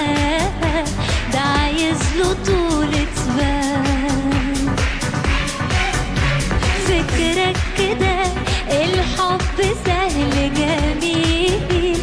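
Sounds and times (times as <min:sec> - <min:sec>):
pop song with dance drum beat: 0:00.0 - 0:12.0.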